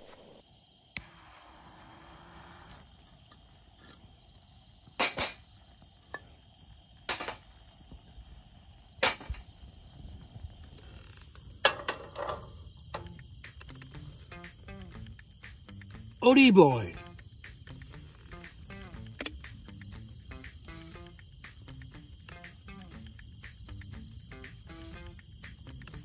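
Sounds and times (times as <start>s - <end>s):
insect drone: 0.0s - 26.0s.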